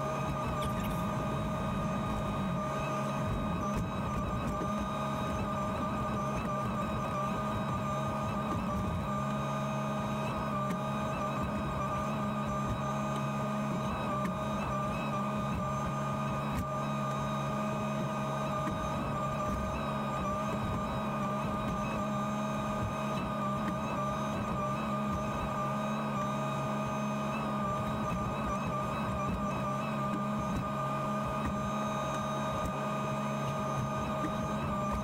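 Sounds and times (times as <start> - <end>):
hydraulic whine: 0.0 - 35.0.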